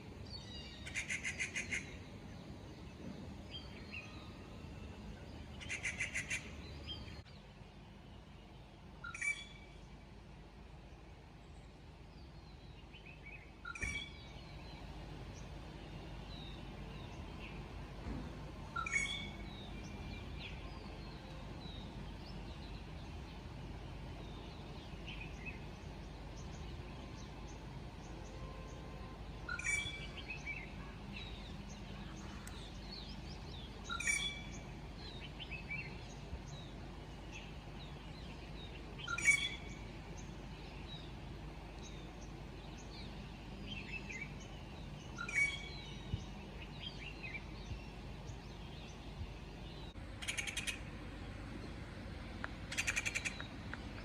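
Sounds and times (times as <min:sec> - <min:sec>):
low background rumble: 0:00.0 - 0:54.0.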